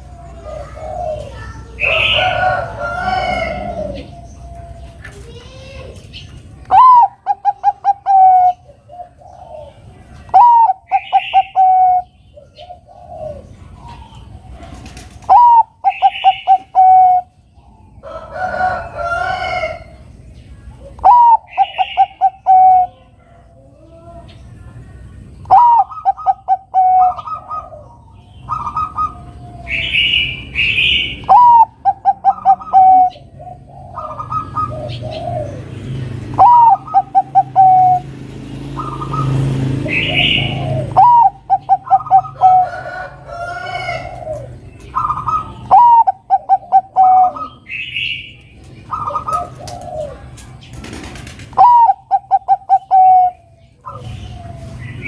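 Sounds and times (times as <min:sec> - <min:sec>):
dove cooing: 0:00.0 - 0:06.0, 0:06.7 - 0:24.2, 0:25.3 - 0:55.0
birds chirping: 0:00.0 - 0:55.0.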